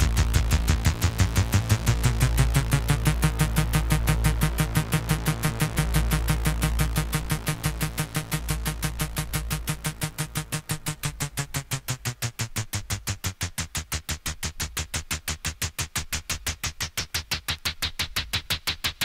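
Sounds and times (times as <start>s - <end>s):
deep bass notes: 0.0s - 19.0s
synth pulse: 0.0s - 19.0s.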